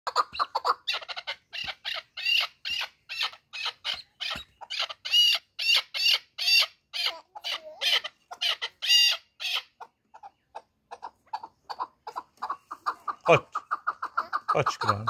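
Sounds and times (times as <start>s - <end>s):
partridge calling: 0.1s - 15.0s.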